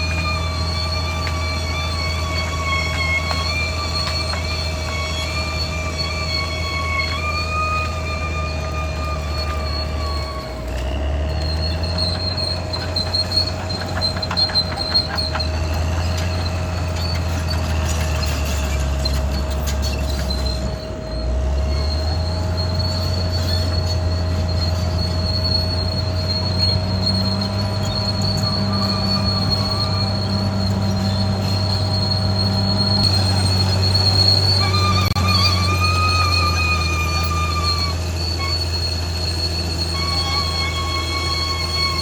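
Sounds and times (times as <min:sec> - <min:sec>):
bulldozer diesel engine: 0:00.0 - 0:42.0
tracks squealing and whining: 0:00.0 - 0:42.0.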